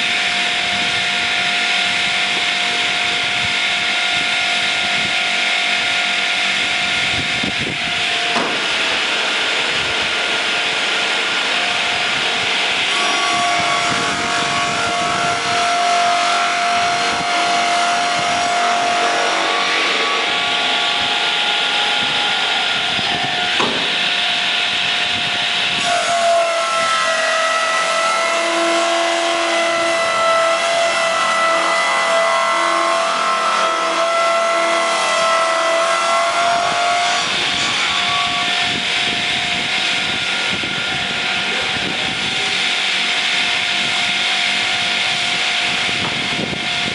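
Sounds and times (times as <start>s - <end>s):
circular saw blade cutting log: 0.0s - 46.9s.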